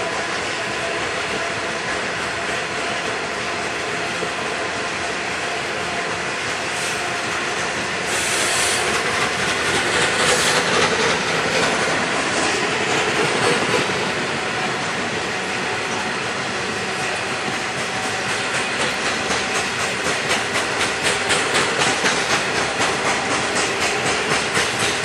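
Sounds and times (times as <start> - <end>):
train wagon wheels clattering on rails: 0.0 - 25.0.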